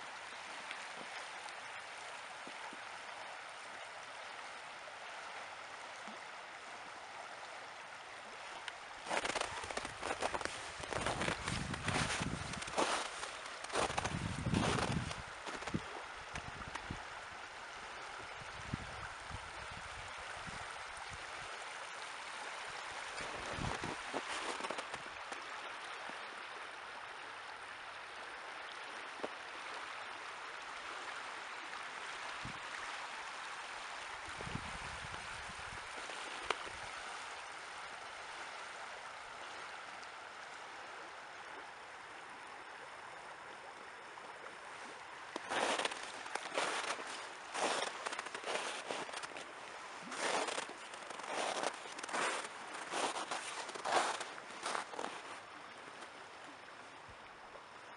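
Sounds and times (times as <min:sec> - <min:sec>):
river water over stones: 0:00.0 - 0:57.9.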